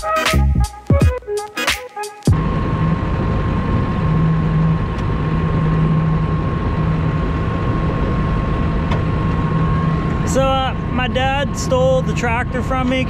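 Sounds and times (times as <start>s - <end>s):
high whine: 0.0s - 13.0s.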